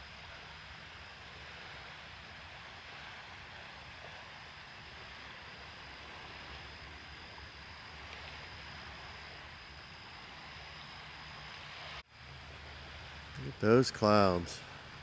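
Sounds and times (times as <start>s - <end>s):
constant hiss: 0.0s - 15.0s
thin high whine: 0.0s - 15.0s.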